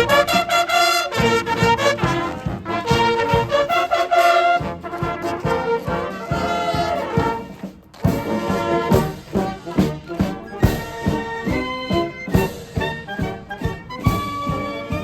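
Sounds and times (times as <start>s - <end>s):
military band playing a march: 0.0s - 15.0s.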